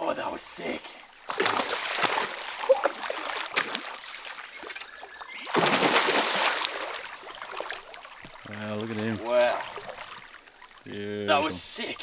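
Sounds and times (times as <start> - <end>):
water splashing in a creek: 1.2 - 12.0.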